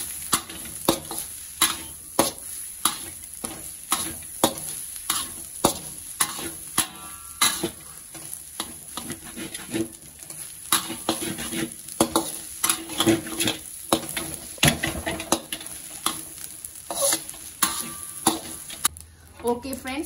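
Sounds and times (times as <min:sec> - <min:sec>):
metal spatula scraping a wok: 0:00.0 - 0:19.6
rice sizzling: 0:00.0 - 0:20.0.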